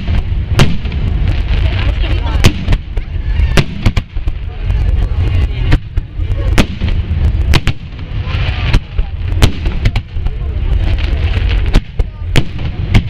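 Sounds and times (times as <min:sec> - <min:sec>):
low rumble of launches: 0:00.0 - 0:13.0.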